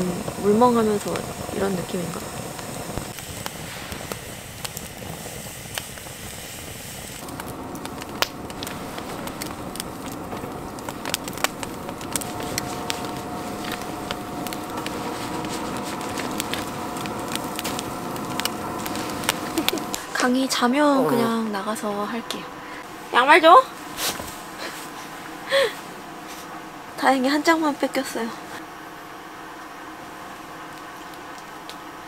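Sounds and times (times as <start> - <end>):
steady hum with held tones: 0.0 - 32.0
wood fire crackling and popping: 0.0 - 32.0.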